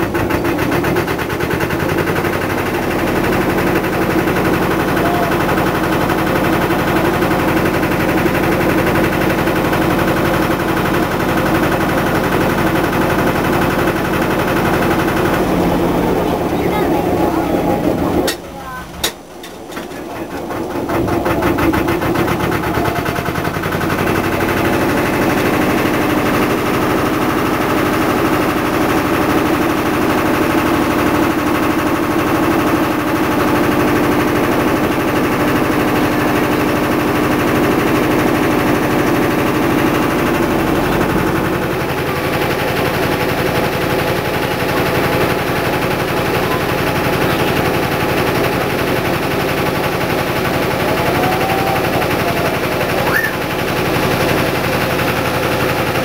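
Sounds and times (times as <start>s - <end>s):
boat engine chugging: 0.0s - 56.0s.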